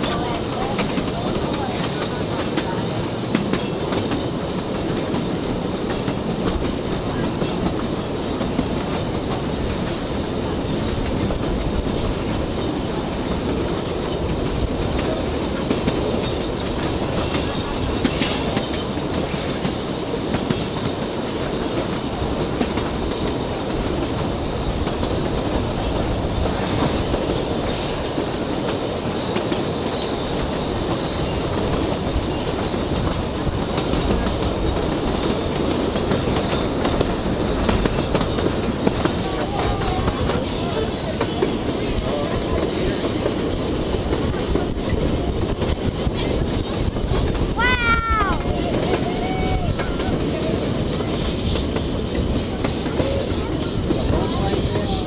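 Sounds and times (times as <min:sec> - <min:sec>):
train carriage rumbling and rattling: 0:00.0 - 0:55.0
wheels clicking over rail joints: 0:00.0 - 0:55.0.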